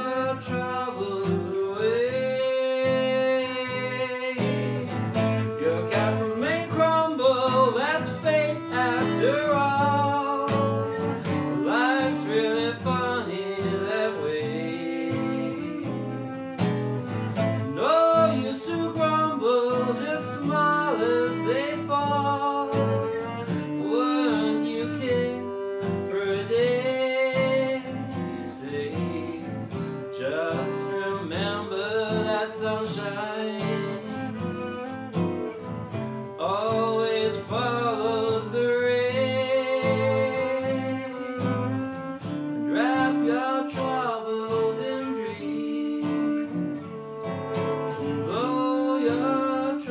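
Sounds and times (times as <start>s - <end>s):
bowed strings melody: 0.0s - 49.9s
plucked string accompaniment: 0.0s - 49.9s.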